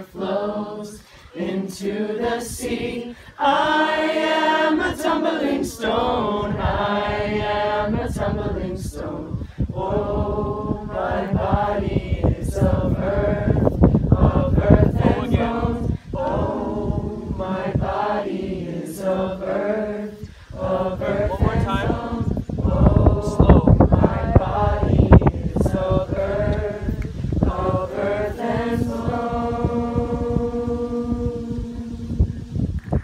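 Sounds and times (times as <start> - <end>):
group singing without instruments: 0.0 - 32.7.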